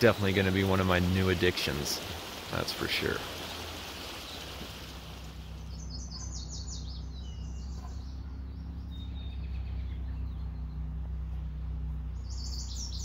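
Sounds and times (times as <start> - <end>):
low hum: 0.0 - 13.0
songbird singing: 0.0 - 13.0.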